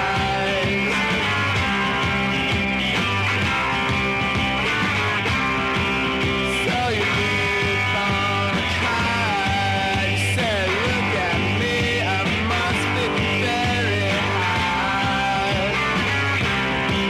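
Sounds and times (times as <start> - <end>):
punk rock song: 0.0 - 17.0.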